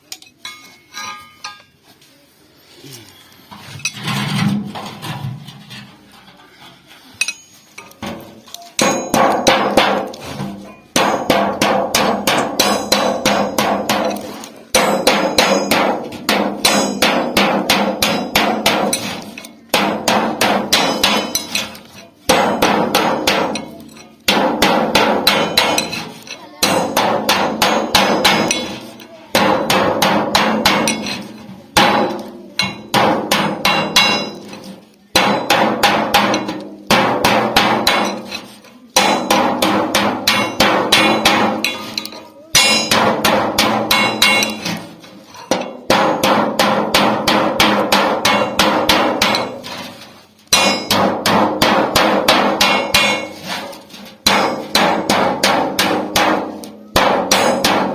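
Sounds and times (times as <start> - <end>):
hammer striking sheet metal: 7.2 - 57.9.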